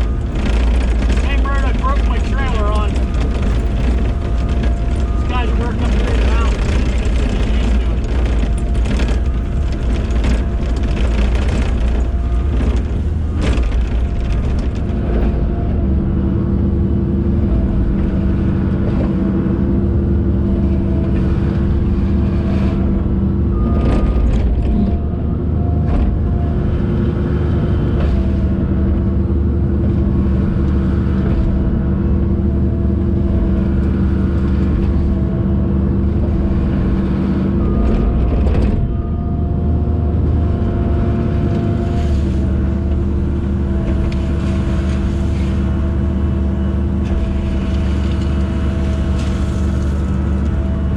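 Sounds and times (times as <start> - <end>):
diesel engine running under load: 0.0 - 50.9
hydraulic whine: 0.0 - 50.9.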